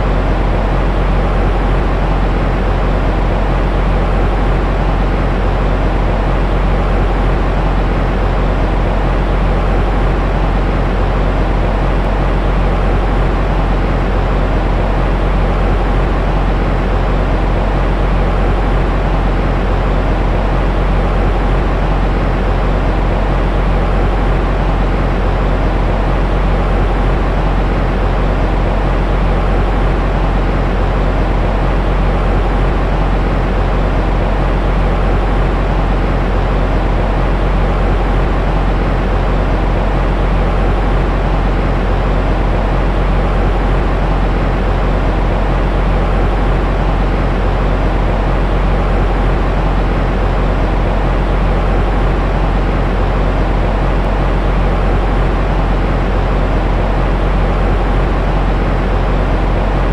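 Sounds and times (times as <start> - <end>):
deep rumbling white noise: 0.0 - 59.9.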